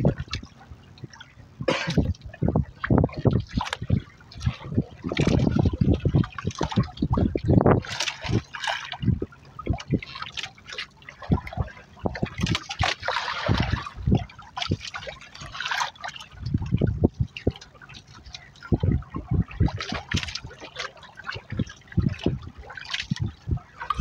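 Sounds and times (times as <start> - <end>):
water splashing against boat hull: 0.0 - 24.0.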